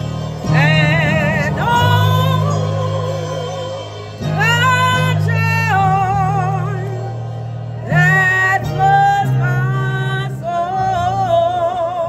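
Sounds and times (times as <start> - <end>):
sustained low instrumental chords: 0.0 - 12.0
woman singing gospel song: 0.0 - 12.0.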